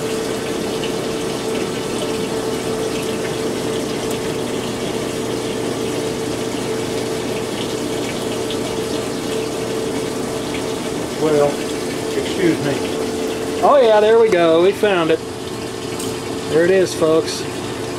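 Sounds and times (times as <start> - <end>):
washer drain pump humming: 0.0 - 17.9.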